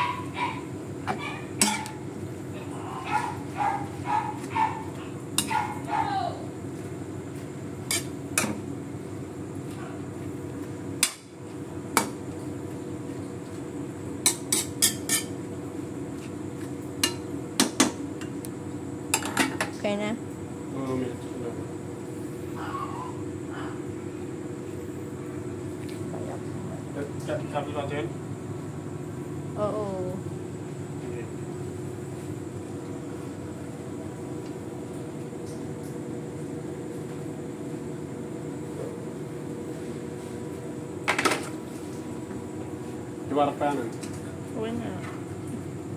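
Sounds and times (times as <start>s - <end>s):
machinery hum and rumble: 0.0s - 45.9s.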